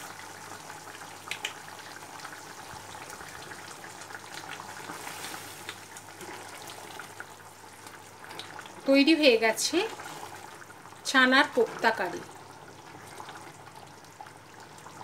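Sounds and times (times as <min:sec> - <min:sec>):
thick gravy bubbling in a pan: 0:00.0 - 0:15.0.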